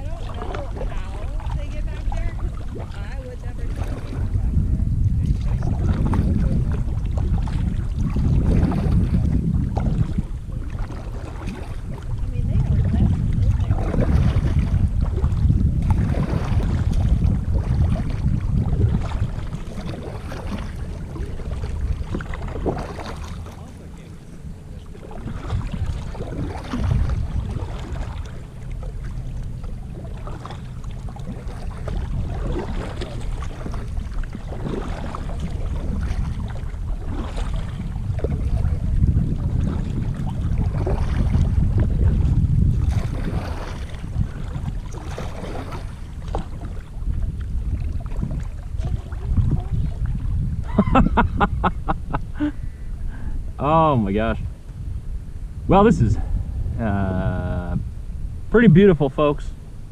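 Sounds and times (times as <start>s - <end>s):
paddles splashing in water: 0.0s - 54.8s
wind buffeting microphone: 0.0s - 59.9s.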